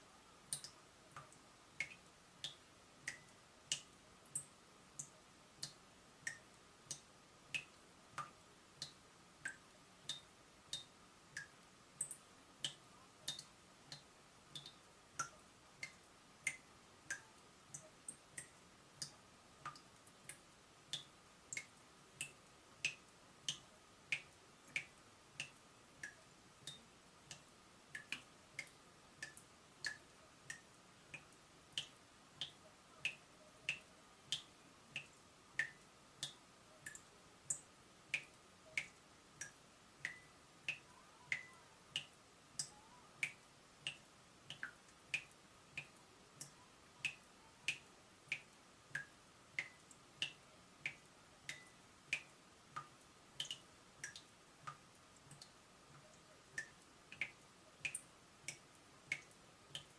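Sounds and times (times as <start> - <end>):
water dripping from tap: 0.5 - 59.9.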